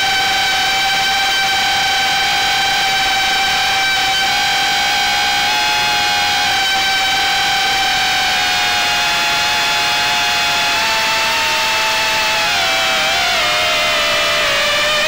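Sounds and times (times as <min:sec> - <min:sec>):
quadcopter motors whining: 0:00.2 - 0:15.0.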